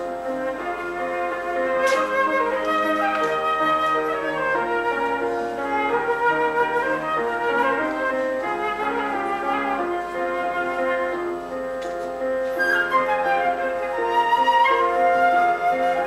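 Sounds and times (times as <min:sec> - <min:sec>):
flute-like melody over chords: 0:00.0 - 0:16.0.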